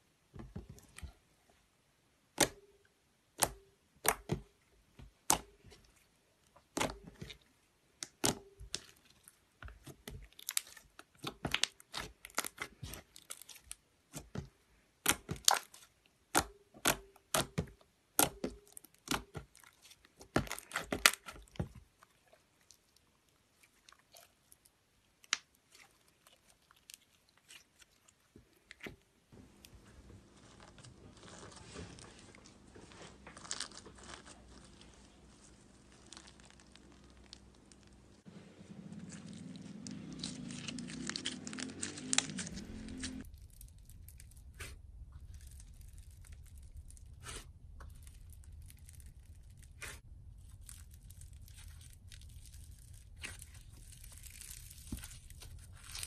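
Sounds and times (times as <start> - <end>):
soft crackle of crunchy slime: 5.4 - 16.4, 18.1 - 56.0.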